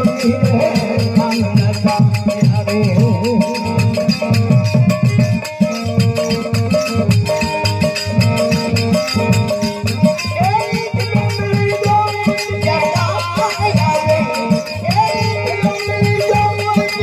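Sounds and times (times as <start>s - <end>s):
hand drum strokes: 0.0s - 17.0s
harmonium chords: 0.0s - 17.0s.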